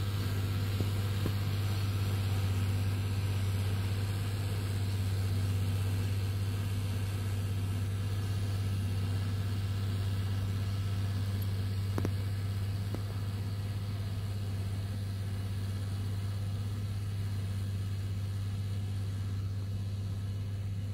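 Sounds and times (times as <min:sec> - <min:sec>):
distant tractor diesel engine: 0:00.0 - 0:20.9.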